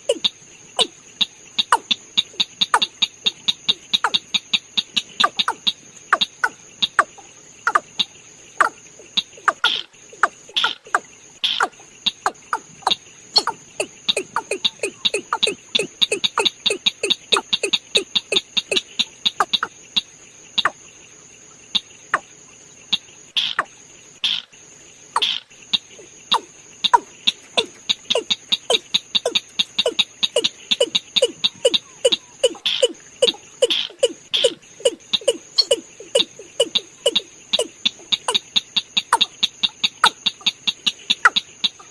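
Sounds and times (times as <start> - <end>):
high-pitched insect trill: 0.0 - 41.9.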